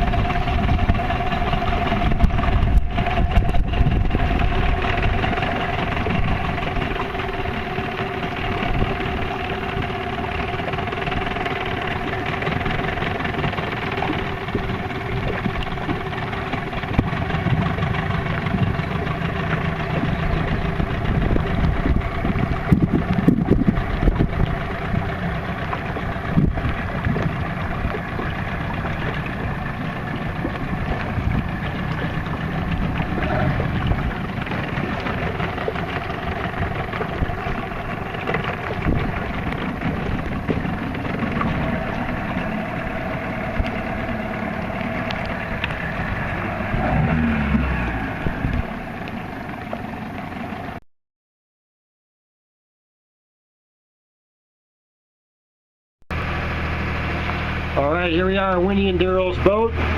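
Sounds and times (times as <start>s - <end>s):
boat engine droning: 0.0s - 50.8s, 56.1s - 59.9s
water noise: 0.0s - 50.8s, 56.1s - 59.9s
wind: 0.0s - 50.8s, 56.1s - 59.9s.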